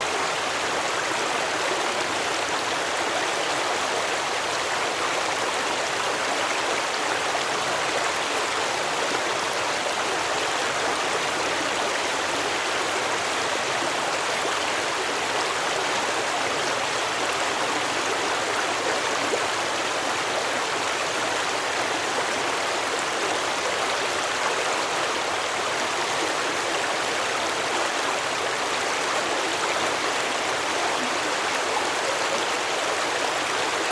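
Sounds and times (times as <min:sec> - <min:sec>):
stream water babbling: 0:00.0 - 0:33.9.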